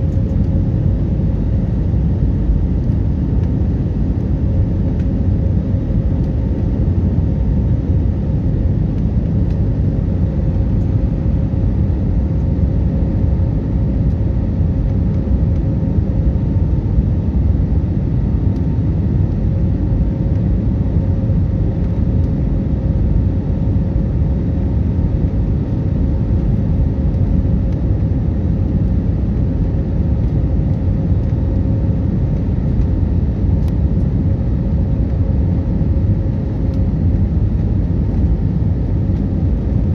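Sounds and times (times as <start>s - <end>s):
aircraft rumble: 0.0s - 39.9s
faint constant hum: 0.0s - 39.9s.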